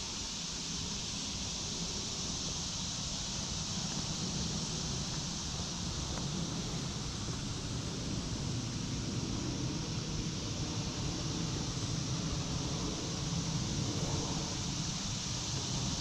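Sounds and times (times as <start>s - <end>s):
high hiss: 0.0s - 16.0s
low unsteady rumble: 0.7s - 16.0s.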